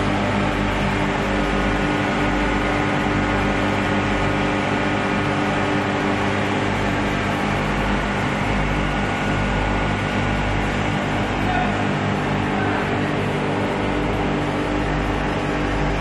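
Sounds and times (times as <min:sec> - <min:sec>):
mill machinery humming: 0:00.0 - 0:16.0.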